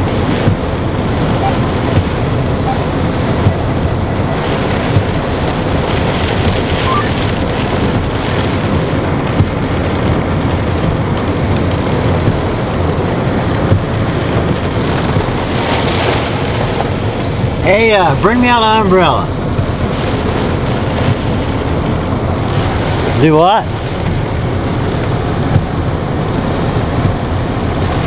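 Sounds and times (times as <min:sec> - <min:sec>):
wind and rain on car: 0:00.0 - 0:28.0.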